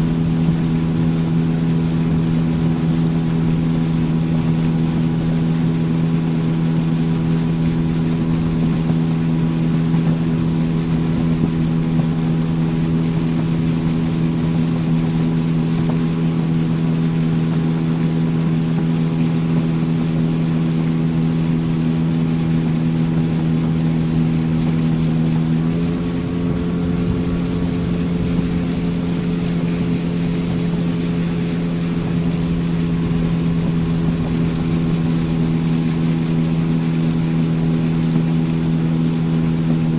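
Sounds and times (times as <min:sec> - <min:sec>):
motorboat engine running: 0:00.0 - 0:39.9
water wash: 0:00.0 - 0:39.9
wind: 0:00.0 - 0:39.9.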